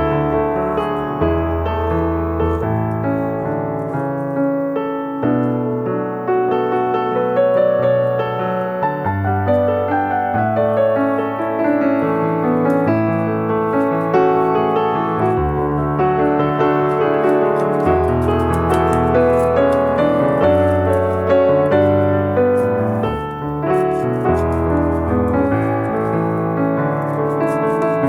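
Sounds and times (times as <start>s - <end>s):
piano chords over bass line: 0.0s - 28.0s.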